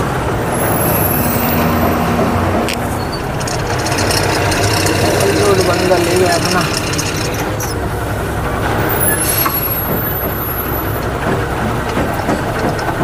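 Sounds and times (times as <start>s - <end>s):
road noise: 0.0s - 13.0s
truck diesel engine running: 0.0s - 13.0s.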